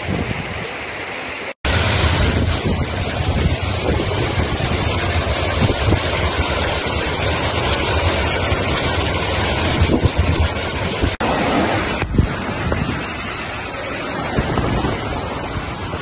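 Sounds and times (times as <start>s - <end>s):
waterfall rushing: 0.0s - 16.0s
wind buffeting microphone: 1.7s - 16.0s.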